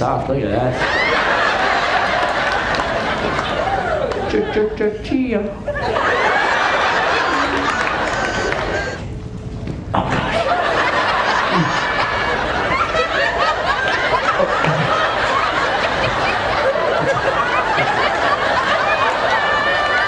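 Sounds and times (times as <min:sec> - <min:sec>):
audience laughing: 0:00.7 - 0:04.9, 0:05.7 - 0:09.0, 0:10.0 - 0:20.0.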